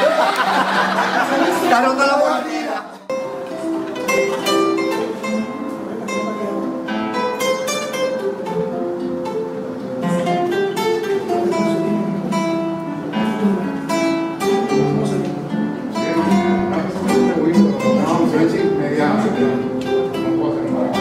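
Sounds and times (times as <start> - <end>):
acoustic guitar: 0.0 - 21.0.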